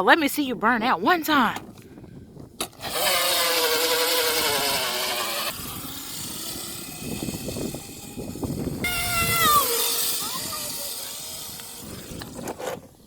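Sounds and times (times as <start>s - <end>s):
dirt bike motor whining: 2.5s - 13.0s.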